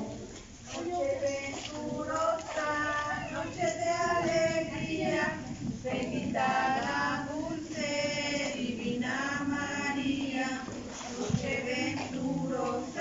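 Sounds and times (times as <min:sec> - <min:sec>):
group of adults and children singing: 0:00.0 - 0:13.0.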